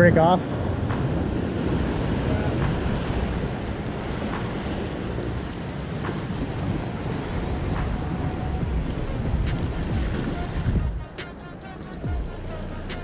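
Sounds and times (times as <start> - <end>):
waves breaking over rocks: 0.0 - 12.0.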